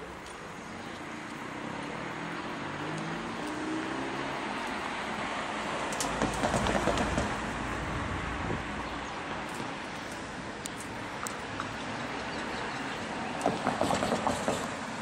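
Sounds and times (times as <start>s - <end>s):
road traffic noise: 0.0s - 15.0s
vehicle passing: 1.1s - 15.0s.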